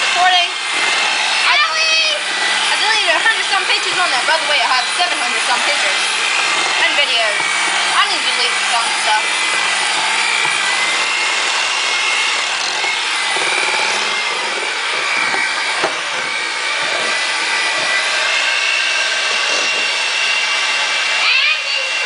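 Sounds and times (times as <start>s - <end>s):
electric hand mixer whipping eggs: 0.0s - 22.0s.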